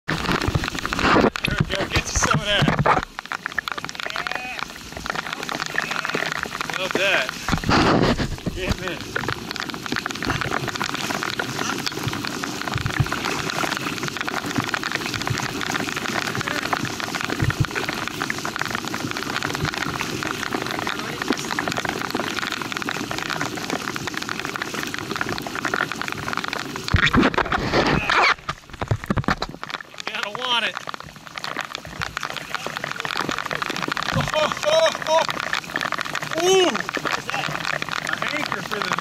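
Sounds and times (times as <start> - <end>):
heavy rain on water: 0.0 - 39.0.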